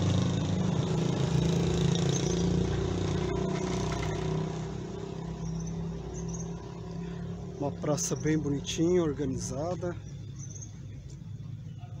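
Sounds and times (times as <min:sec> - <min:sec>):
outdoor noise: 0:00.0 - 0:12.0
vehicle engine running: 0:00.0 - 0:12.0.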